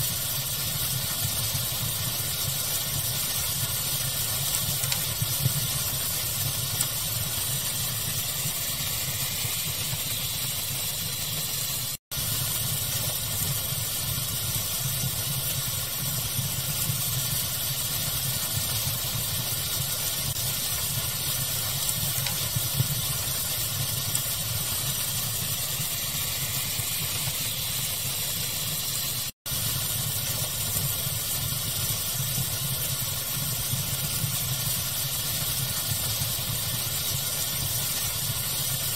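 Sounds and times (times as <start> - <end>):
fire crackling: 0.0 - 38.9
pink-noise hiss: 0.0 - 38.9.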